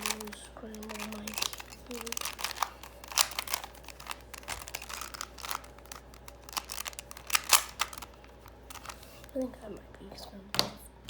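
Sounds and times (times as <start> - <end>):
handling clicks and rustles: 0.0 - 9.4.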